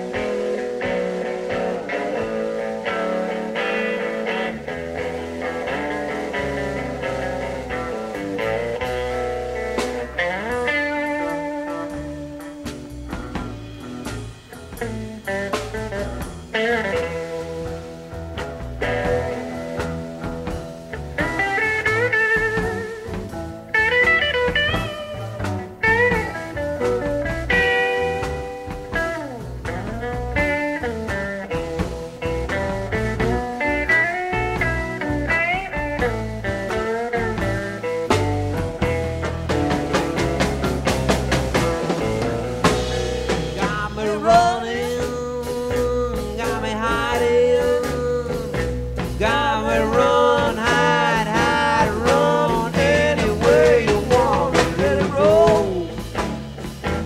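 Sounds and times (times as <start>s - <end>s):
bass guitar notes: 0.0s - 57.0s
electric guitar picking notes: 0.0s - 57.0s.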